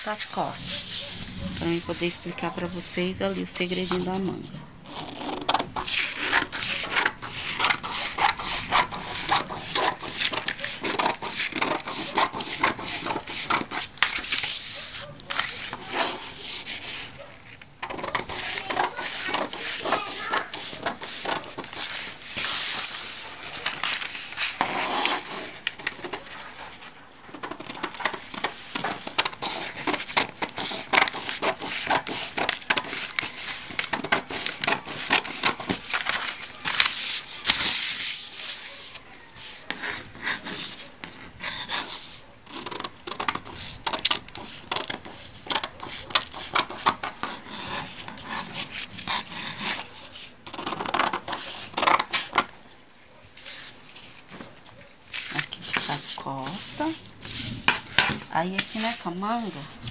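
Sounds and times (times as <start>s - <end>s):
paper crackling: 0.0s - 59.9s.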